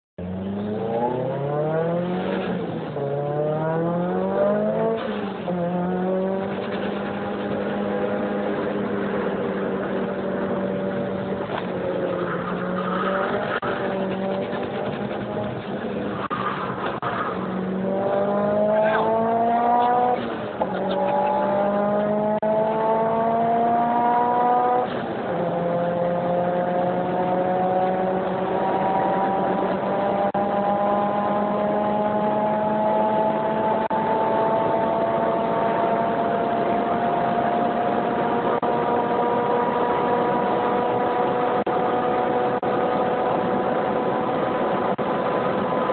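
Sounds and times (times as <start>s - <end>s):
car engine accelerating: 0.2s - 45.9s.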